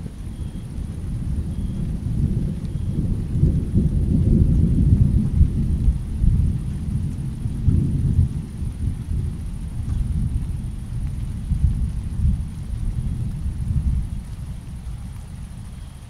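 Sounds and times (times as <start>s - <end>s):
faint rain falling: 0.0s - 16.0s
thunder rumbling: 0.0s - 16.0s.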